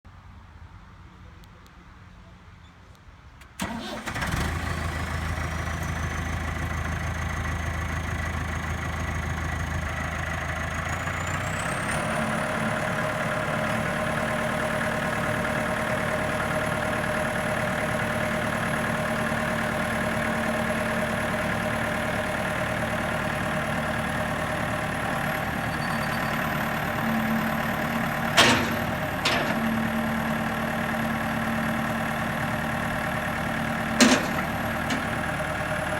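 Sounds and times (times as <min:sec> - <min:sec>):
tractor diesel engine running: 0:03.6 - 0:35.9.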